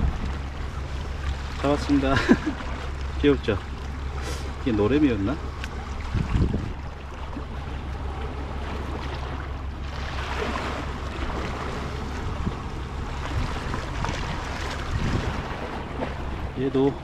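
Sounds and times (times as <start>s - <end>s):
low rumble of wind on microphone: 0.0s - 17.0s
sea water washing against rocks: 0.0s - 17.0s.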